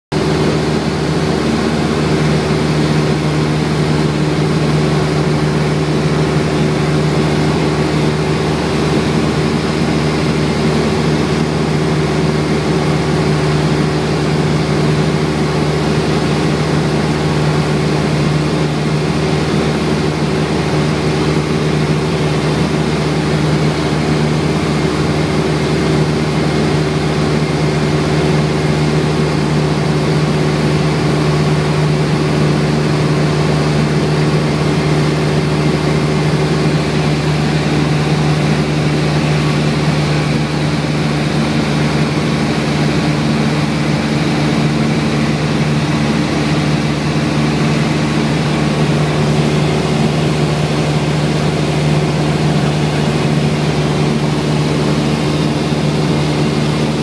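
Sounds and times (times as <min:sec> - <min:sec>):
light aircraft engine in flight: 0:00.1 - 0:57.0.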